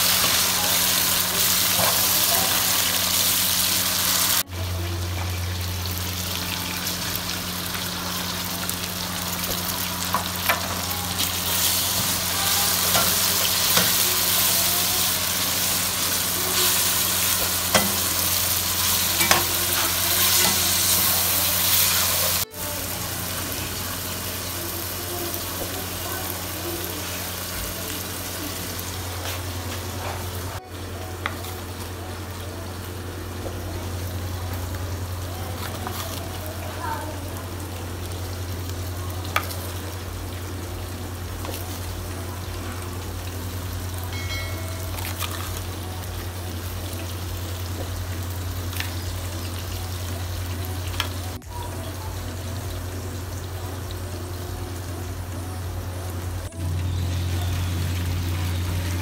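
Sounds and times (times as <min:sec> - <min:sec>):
onions and tomatoes sizzling in oil: 0:00.0 - 0:59.0.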